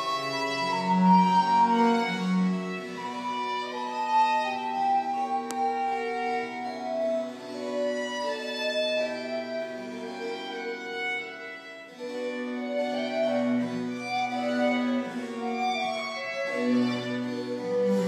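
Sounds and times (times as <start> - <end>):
cello: 0.0 - 18.0
harpsichord: 0.0 - 18.0
violin: 0.0 - 18.0
wooden woodwind: 0.0 - 18.0.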